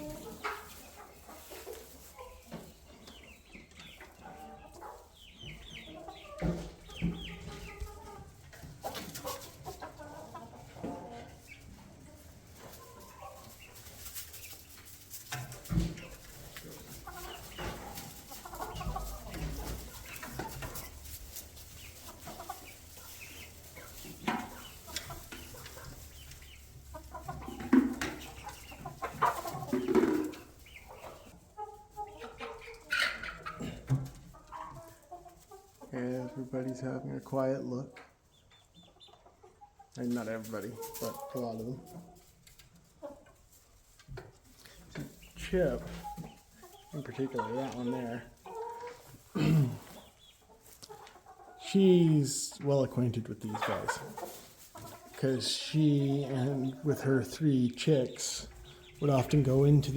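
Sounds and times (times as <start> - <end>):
birds scuffling: 0.0 - 59.9
chickens clucking: 0.0 - 59.9.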